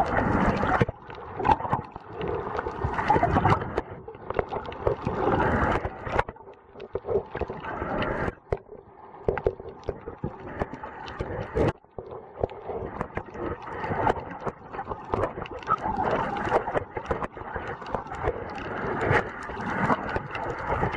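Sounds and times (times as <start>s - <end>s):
muffled water sloshing and gurgling: 0.0s - 20.9s.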